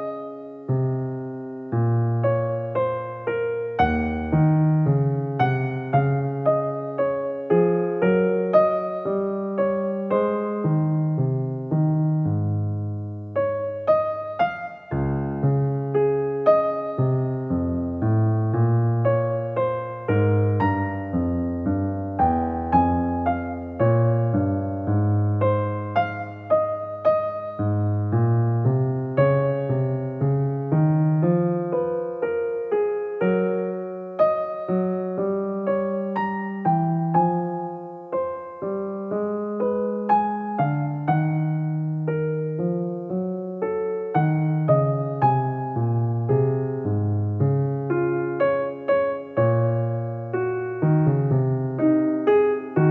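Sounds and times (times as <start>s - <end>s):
gentle piano music: 0.0s - 52.9s.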